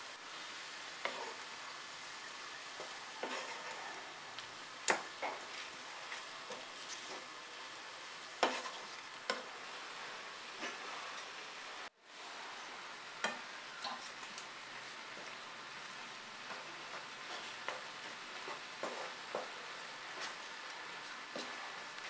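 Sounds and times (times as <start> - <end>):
liquid boiling in a pan: 0.0 - 22.0.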